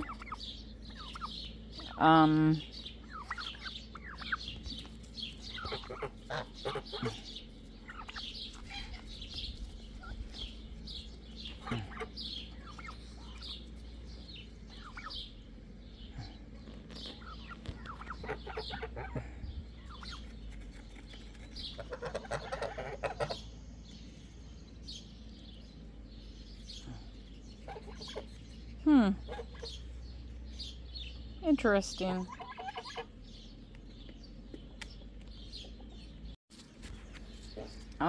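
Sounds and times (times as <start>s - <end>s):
poultry clucking: 0.0s - 31.3s, 31.9s - 36.4s
poultry chirping: 0.0s - 38.0s.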